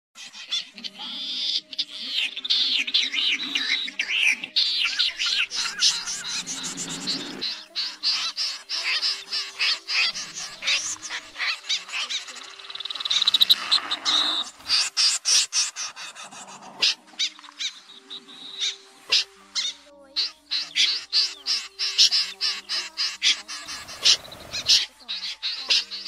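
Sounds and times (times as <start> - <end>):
snipe calling: 0.2 - 26.0.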